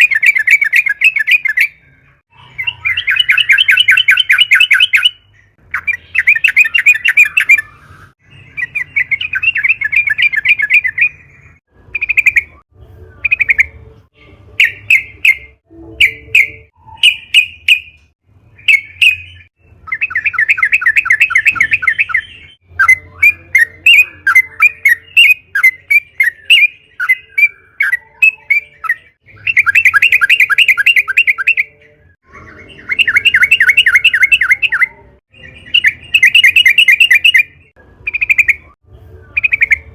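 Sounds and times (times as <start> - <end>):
bird singing chattering rolls: 0.0 - 13.9, 14.5 - 39.9.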